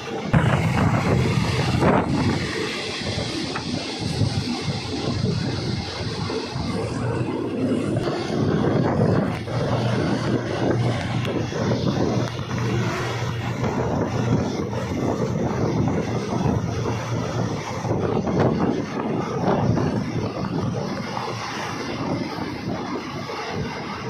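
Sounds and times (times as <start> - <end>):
low drone: 0.0 - 24.0
rushing air: 0.0 - 24.0
train wheels rumbling on rails: 0.0 - 24.0.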